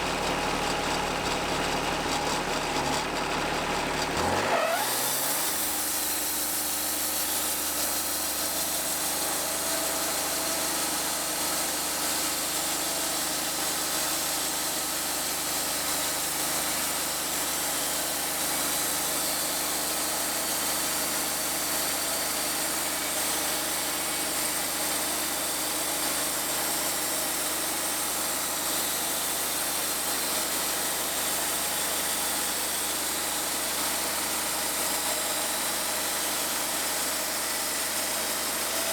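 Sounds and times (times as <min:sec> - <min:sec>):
bandsaw sawmill running: 0:00.0 - 0:38.9.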